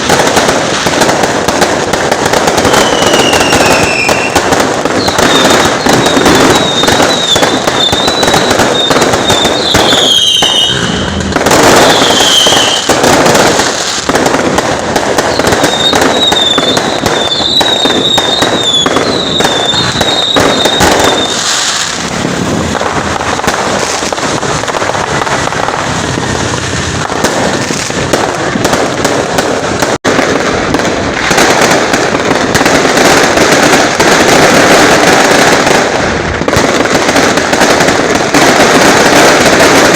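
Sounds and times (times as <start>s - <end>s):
firework whistle: 0.0s - 39.9s
fireworks crackling and popping: 0.0s - 39.9s.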